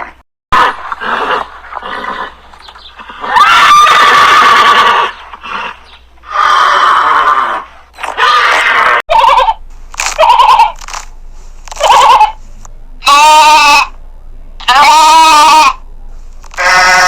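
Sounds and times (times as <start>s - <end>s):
farm animal calling: 0.0s - 9.6s, 10.2s - 10.8s, 11.8s - 14.0s, 14.6s - 15.8s, 16.5s - 17.0s.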